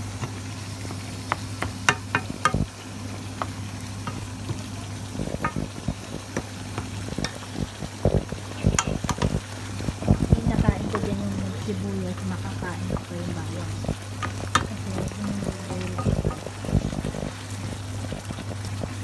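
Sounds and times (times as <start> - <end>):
steady low hum: 0.0 - 19.0
utensil stirring a pot: 0.0 - 19.0.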